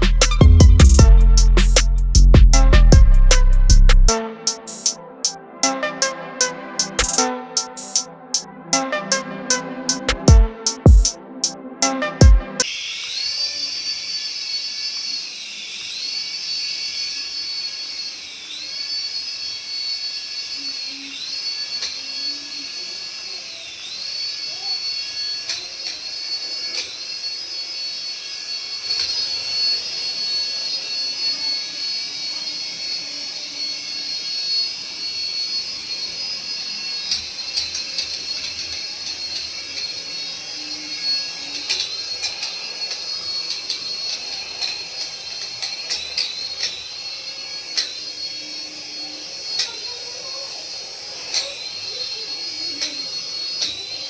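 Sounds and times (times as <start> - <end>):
toy electric motor whining: 0.0 - 54.0.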